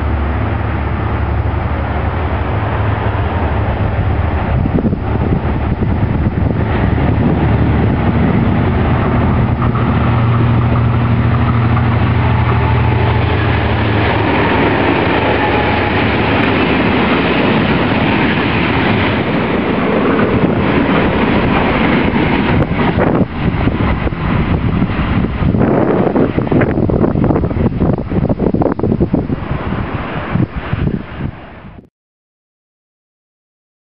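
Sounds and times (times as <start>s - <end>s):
diesel engine hum: 0.0s - 30.4s
train wagons rolling over rails: 0.0s - 31.5s
wind buffeting microphone: 0.0s - 31.9s.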